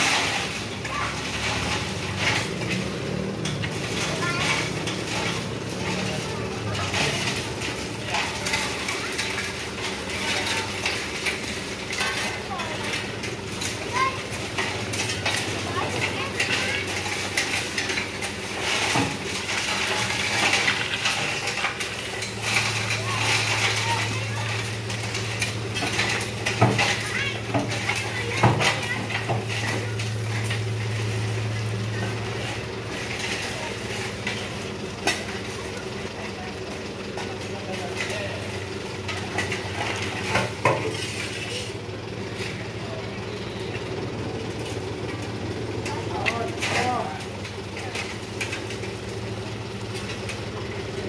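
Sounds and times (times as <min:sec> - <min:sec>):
shovels scraping steel tailgate: 0:00.0 - 0:43.0, 0:44.4 - 0:51.0
truck engine running: 0:00.0 - 0:51.0.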